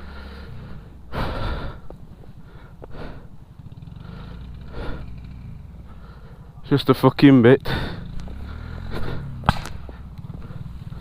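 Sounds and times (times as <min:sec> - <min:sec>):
heavy breathing: 0:00.0 - 0:06.6, 0:07.6 - 0:11.0
motorcycle engine idling: 0:00.0 - 0:11.0.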